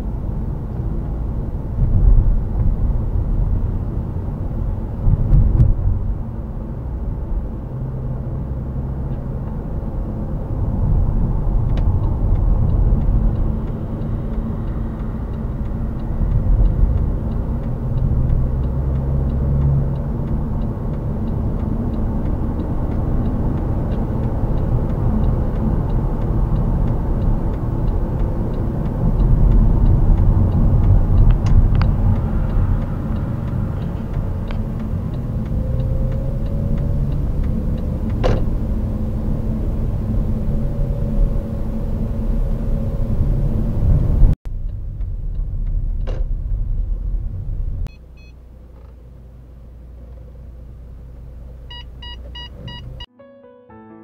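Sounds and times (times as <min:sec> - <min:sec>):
car road and engine rumble: 0:00.0 - 0:53.1.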